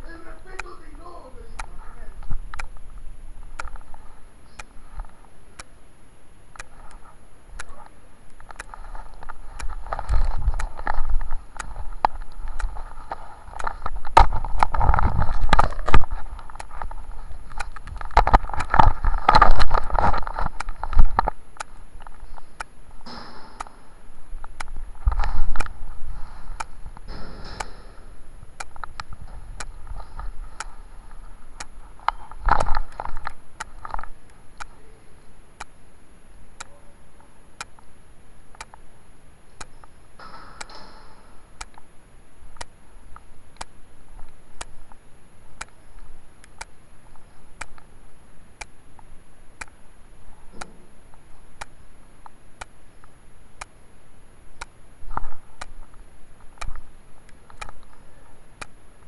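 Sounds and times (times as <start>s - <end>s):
steady ticking: 0.0s - 36.8s, 37.4s - 54.0s.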